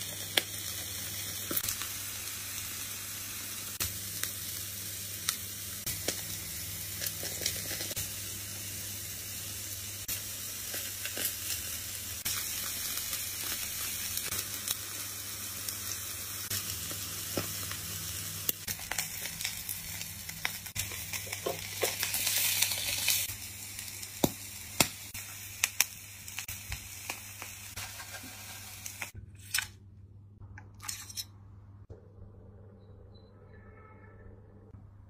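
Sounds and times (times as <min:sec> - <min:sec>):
meat sizzling on a grill: 0:00.0 - 0:29.2.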